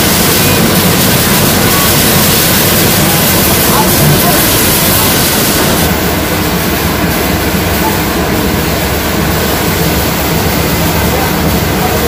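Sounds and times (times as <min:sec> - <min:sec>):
milling machinery running: 0:00.0 - 0:12.0.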